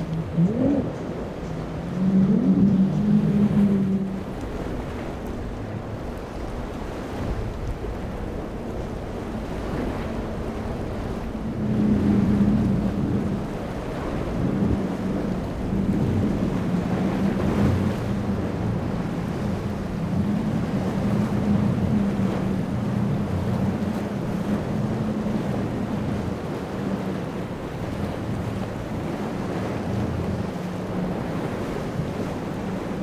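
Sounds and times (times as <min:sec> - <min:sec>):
outboard engines droning: 0:00.0 - 0:33.0
water rushing against hull: 0:00.0 - 0:33.0
wind noise on microphone: 0:00.0 - 0:33.0.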